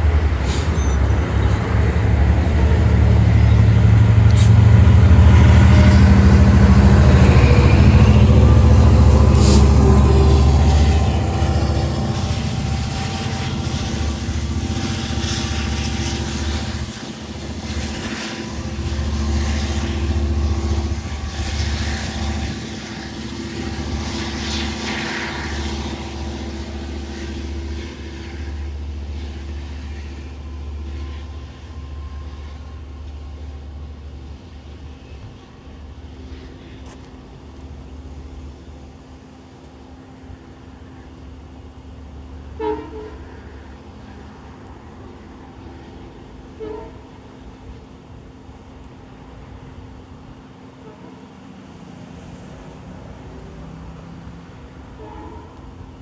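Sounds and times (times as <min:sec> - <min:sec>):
train engine rumbling: 0:00.0 - 0:56.0.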